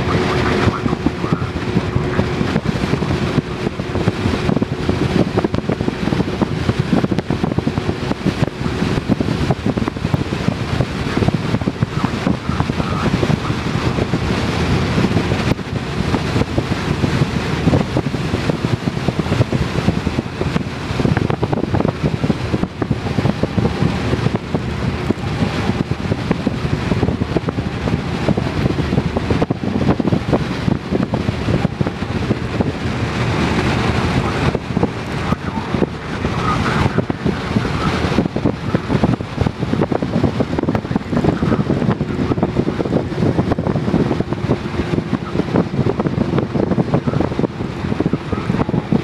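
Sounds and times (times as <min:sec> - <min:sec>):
road and engine noise: 0:00.0 - 0:49.0
wind noise: 0:00.0 - 0:49.0.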